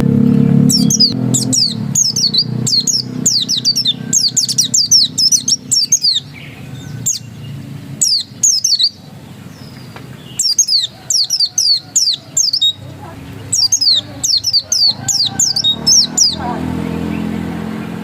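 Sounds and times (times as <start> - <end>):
bird singing falling notes: 0.0 - 18.0.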